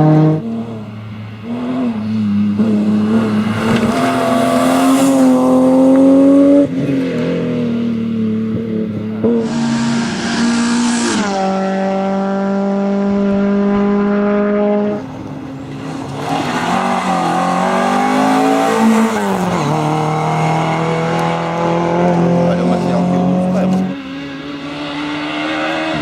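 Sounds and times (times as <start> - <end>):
rally car engines passing: 0.0 - 26.0.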